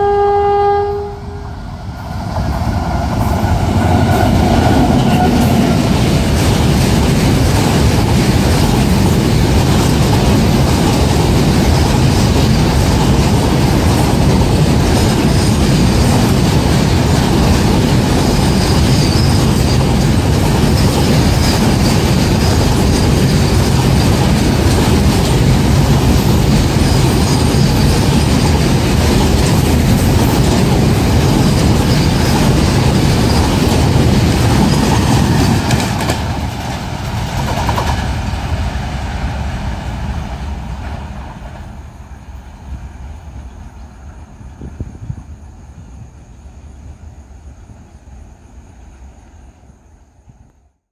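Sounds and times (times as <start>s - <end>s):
steel wheels rumbling on rail: 0.0s - 50.5s.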